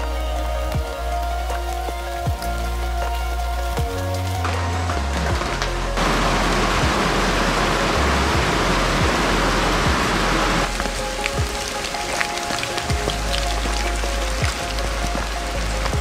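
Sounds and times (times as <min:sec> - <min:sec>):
background music: 0:00.0 - 0:16.0
heavy rain falling: 0:00.0 - 0:16.0.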